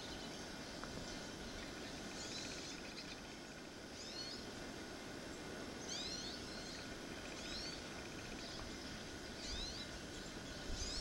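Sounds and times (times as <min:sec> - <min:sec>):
small birds chirping: 0:00.0 - 0:04.5, 0:05.2 - 0:11.0
outdoor background noise: 0:00.0 - 0:11.0.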